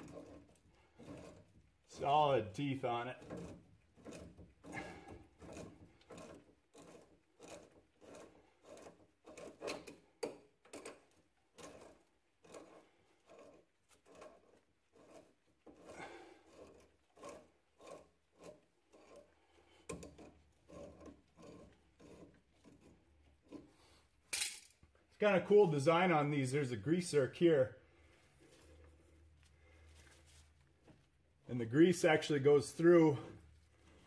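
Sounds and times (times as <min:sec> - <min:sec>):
soft rubbing and scraping: 0:00.0 - 0:10.1, 0:10.8 - 0:24.2, 0:25.0 - 0:34.0.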